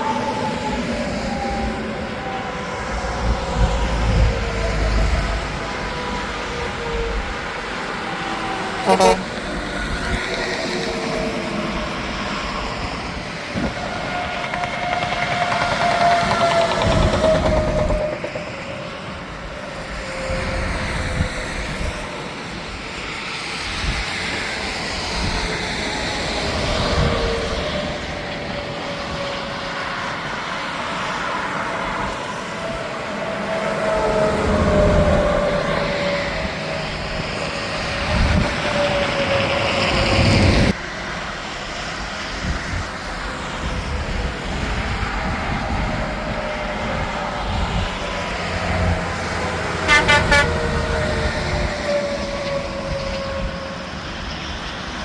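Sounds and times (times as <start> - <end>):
trucks passing on highway: 0.0 - 55.0.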